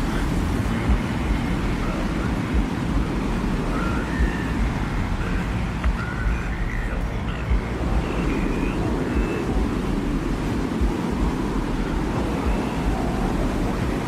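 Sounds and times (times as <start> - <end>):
desert wind rumbling: 0.0 - 14.0
faint high whistling tones: 0.8 - 14.0.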